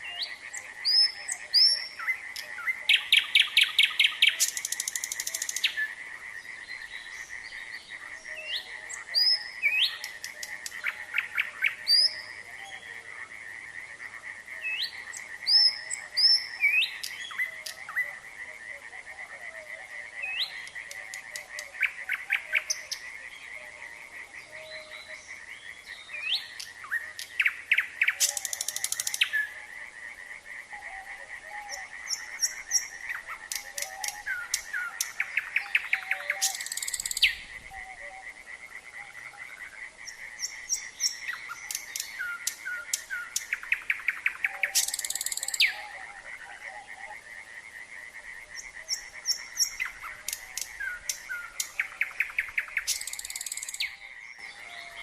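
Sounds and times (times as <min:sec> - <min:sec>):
nightingale singing: 0:00.0 - 0:13.4, 0:14.0 - 0:29.9, 0:30.6 - 0:55.0
frogs trilling: 0:00.0 - 0:55.0.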